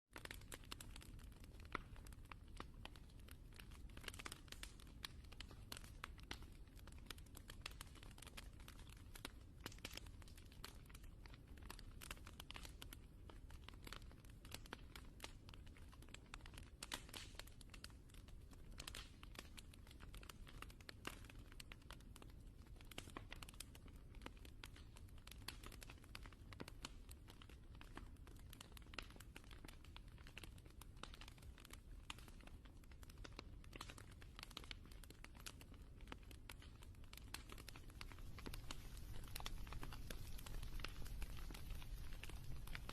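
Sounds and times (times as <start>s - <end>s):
wood fire crackling: 0.1s - 42.9s.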